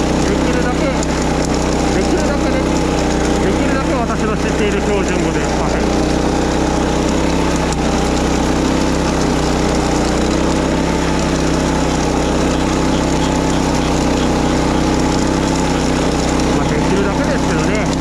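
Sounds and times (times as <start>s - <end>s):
small petrol engine running: 0.0s - 18.0s.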